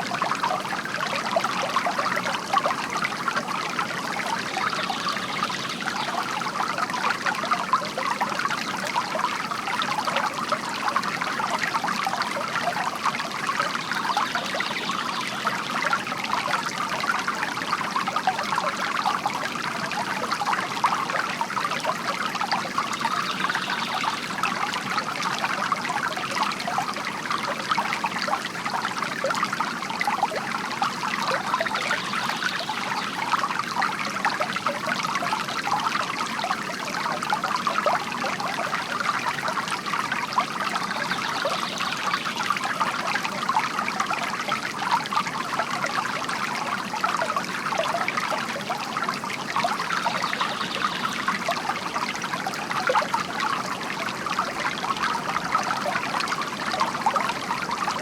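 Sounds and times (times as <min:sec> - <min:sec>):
fountain trickling into water: 0:00.0 - 0:58.0.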